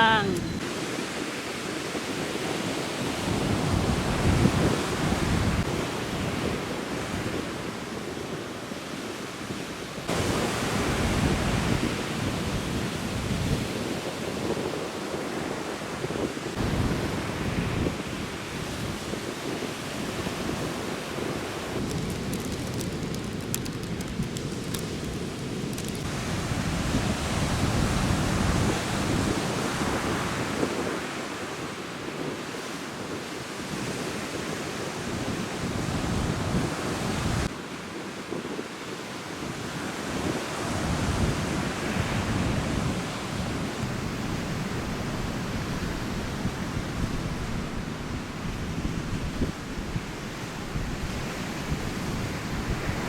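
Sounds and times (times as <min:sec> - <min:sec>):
wind buffeting microphone: 0:00.0 - 0:38.7, 0:39.4 - 0:53.0
sea waves breaking on beach: 0:00.0 - 0:53.0.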